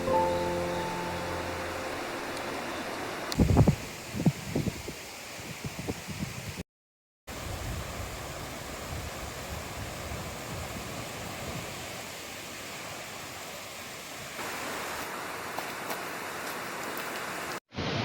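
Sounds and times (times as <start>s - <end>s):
water rushing: 0.0s - 4.1s, 7.3s - 18.0s.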